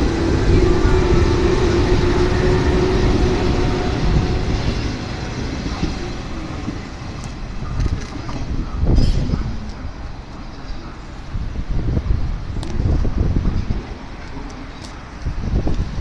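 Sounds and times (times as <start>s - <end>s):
electric train wheel and motor rumble: 0.0s - 16.0s.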